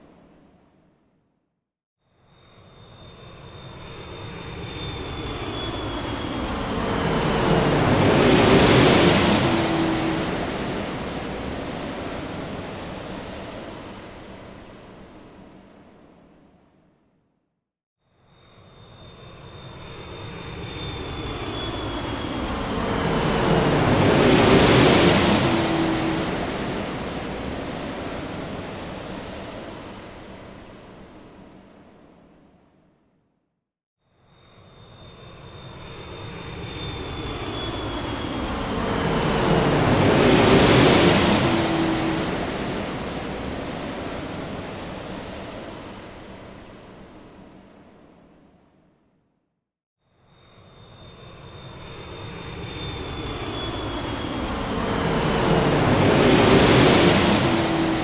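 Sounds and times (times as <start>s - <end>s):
airliner engine rush and whine: 2.2s - 16.6s, 18.3s - 32.8s, 34.3s - 48.9s, 50.3s - 58.0s
aircraft flying past: 2.6s - 15.6s, 18.7s - 31.8s, 34.7s - 48.0s, 50.6s - 58.0s.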